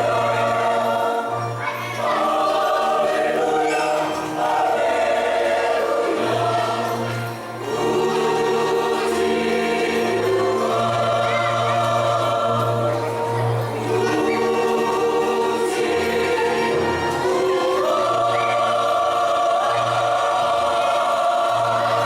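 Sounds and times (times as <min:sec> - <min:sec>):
church choir singing a hymn: 0:00.0 - 0:22.0.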